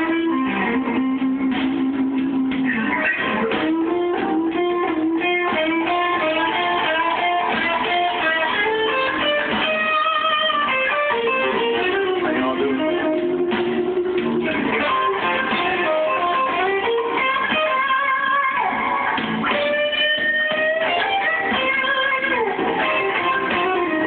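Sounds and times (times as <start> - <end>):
blues electric guitar lead: 0.0 - 24.0.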